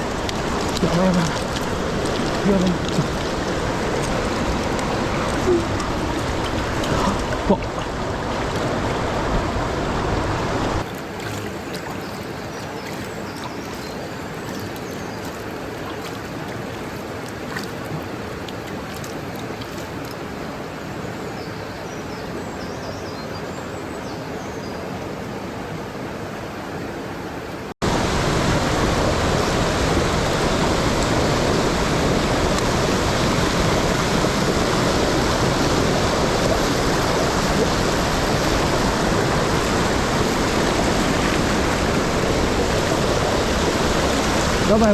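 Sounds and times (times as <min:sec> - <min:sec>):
rushing mountain stream: 0:00.0 - 0:44.9.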